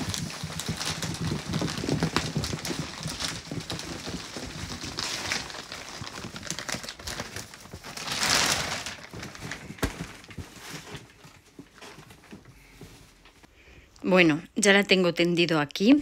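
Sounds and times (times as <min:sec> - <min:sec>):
plastic wrapping crinkling: 0:00.0 - 0:13.4.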